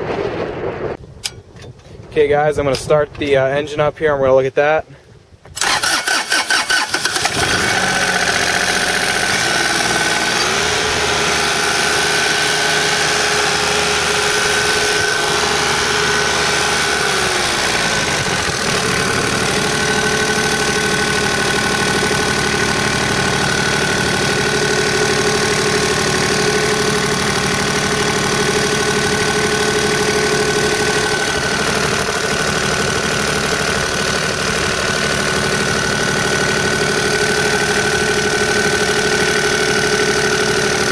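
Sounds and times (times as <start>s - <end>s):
diesel engine running: 5.6s - 40.9s.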